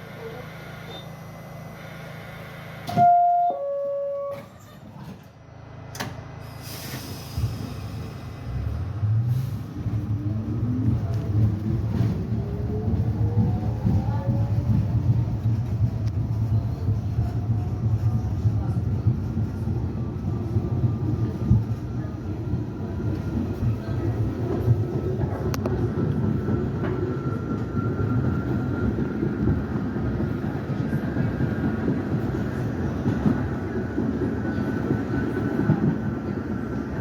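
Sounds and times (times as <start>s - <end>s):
train wheels rumbling on track: 4.2s - 37.0s.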